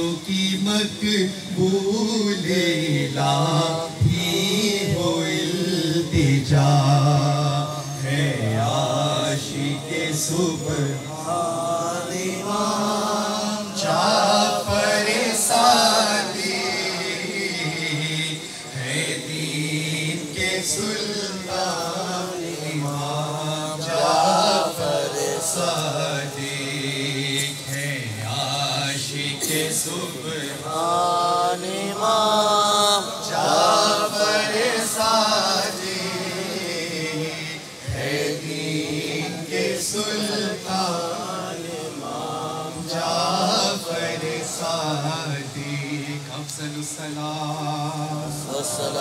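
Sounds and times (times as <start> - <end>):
man chanting through microphone: 0.0 - 49.0.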